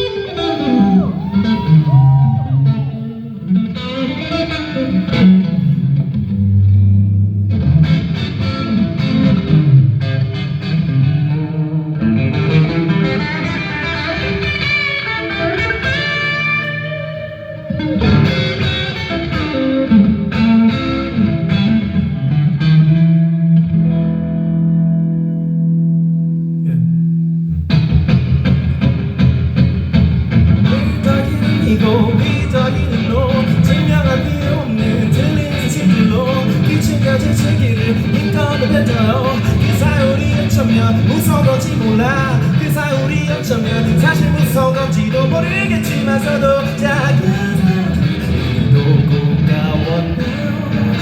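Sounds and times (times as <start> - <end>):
rock band instrumental: 0.0 - 25.0, 27.5 - 51.0
electric guitar through effects: 0.0 - 51.0.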